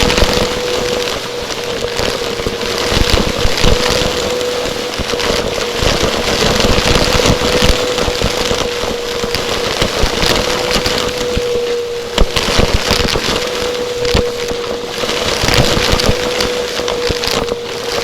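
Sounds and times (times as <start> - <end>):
vacuum cleaner knocks and clatter: 0.0 - 18.0
vacuum cleaner running: 0.0 - 18.0.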